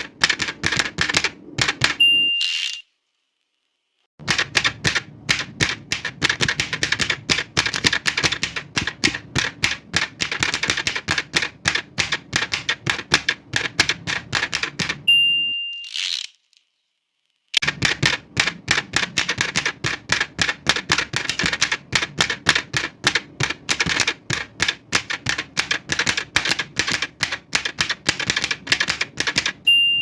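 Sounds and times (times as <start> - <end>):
typewriter keys striking: 0.0 - 2.0, 4.2 - 15.1, 17.6 - 29.7.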